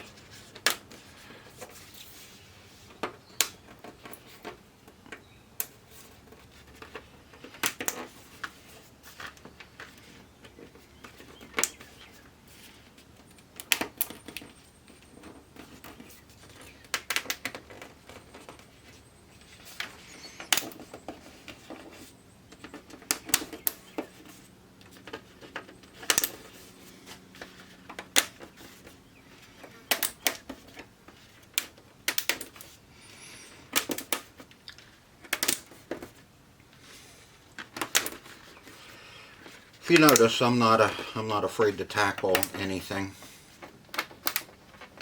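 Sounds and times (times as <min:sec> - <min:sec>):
clicks and knocks of handled parts: 0:02.8 - 0:32.8, 0:33.7 - 0:41.1, 0:41.9 - 0:45.0.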